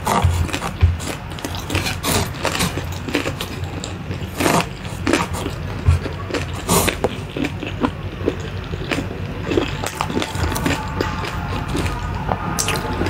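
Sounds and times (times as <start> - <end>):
chewing noodles: 0.0 - 13.0.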